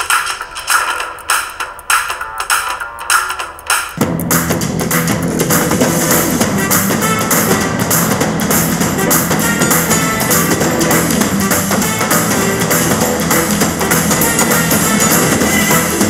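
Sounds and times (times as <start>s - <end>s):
music with drums and guitar: 0.0s - 16.0s.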